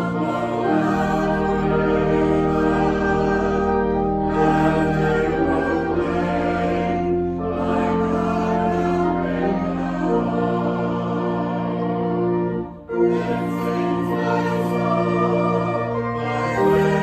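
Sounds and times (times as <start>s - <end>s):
choir singing sacred music: 0.0s - 17.0s
sustained low accompanying notes: 0.0s - 17.0s.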